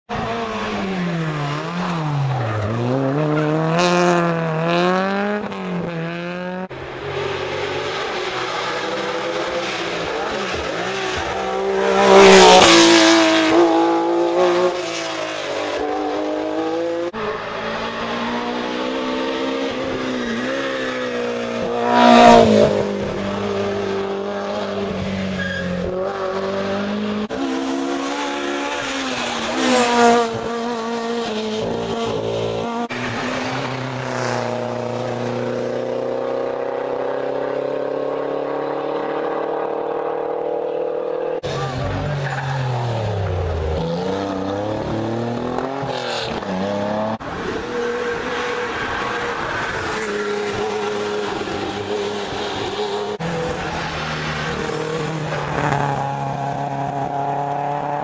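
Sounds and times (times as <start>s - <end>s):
cars passing close: 0.1s - 58.0s
rally car engines revving: 0.1s - 58.0s.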